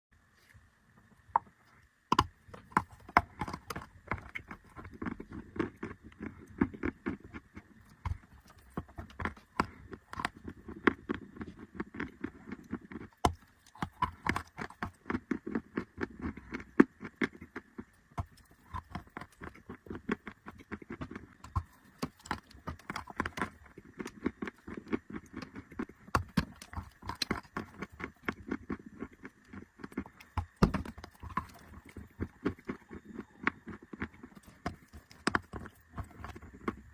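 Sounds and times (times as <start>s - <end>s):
chalk crunching and chewing: 1.4s - 36.9s.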